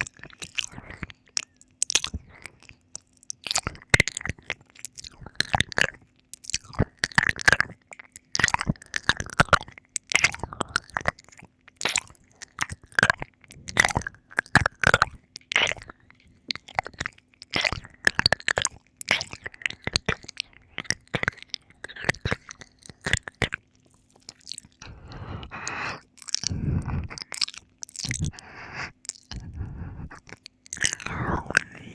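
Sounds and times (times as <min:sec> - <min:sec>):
wet tongue and lip smacks: 0:00.0 - 0:31.9.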